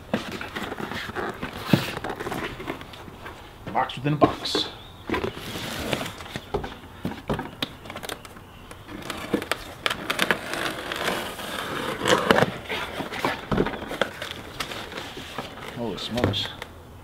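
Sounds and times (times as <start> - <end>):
cardboard scraping and crackling: 0.0 - 16.7.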